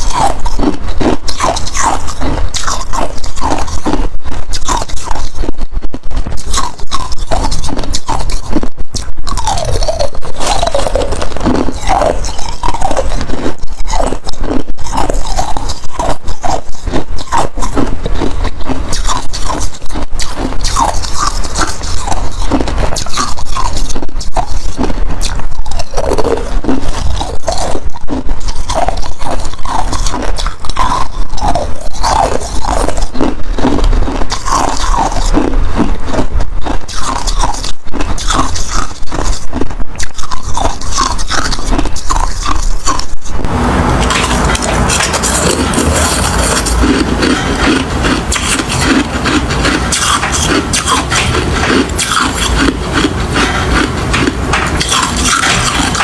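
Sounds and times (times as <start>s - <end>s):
ice crunching between teeth: 0.0s - 56.0s.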